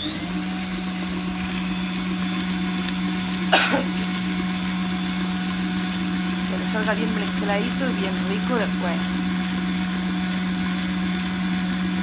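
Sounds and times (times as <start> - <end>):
electric mixer running: 0.0 - 12.0.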